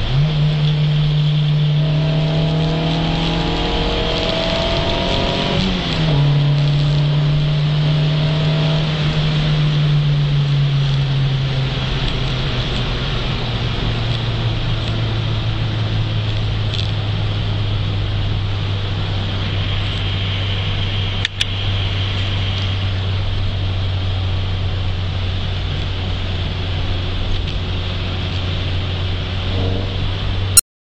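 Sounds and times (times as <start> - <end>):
car engine running: 0.0 - 30.6
road noise: 0.0 - 30.6.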